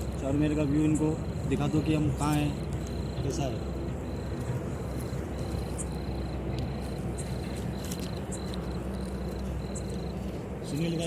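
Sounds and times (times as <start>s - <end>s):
cricket chirping: 0.0s - 11.0s
steady low rumble: 0.0s - 11.0s.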